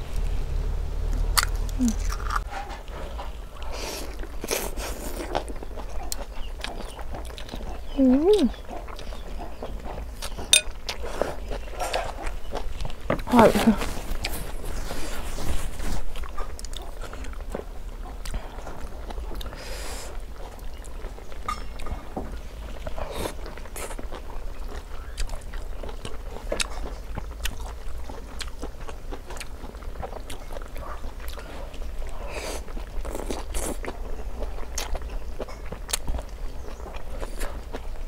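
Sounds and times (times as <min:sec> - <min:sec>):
person chewing food: 0:01.2 - 0:38.0.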